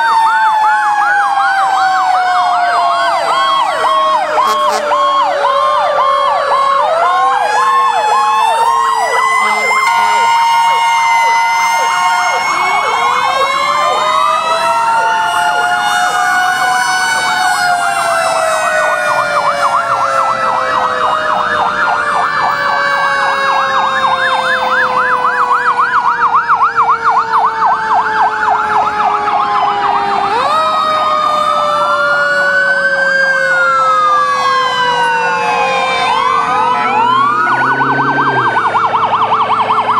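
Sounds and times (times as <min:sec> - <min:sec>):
electronic siren wail and yelp: 0:00.0 - 0:39.9.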